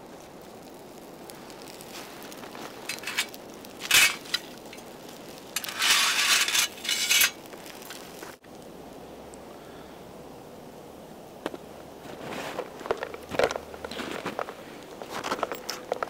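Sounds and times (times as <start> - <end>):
dry kindling crunching: 0.0 - 9.9, 11.4 - 16.0.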